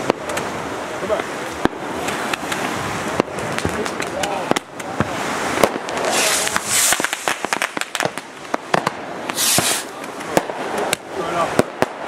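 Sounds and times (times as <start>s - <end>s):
fireworks bangs and cracks: 0.0s - 12.0s
firework hissing rushes: 1.6s - 12.0s.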